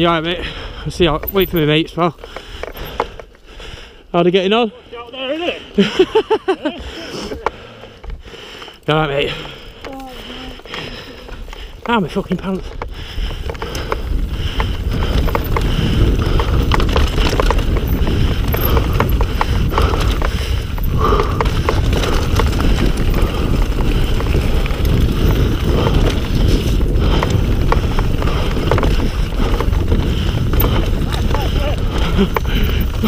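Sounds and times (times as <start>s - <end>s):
bike rattling and knocking: 0.0s - 3.9s, 7.3s - 33.0s
wind and tyre noise: 0.0s - 33.0s.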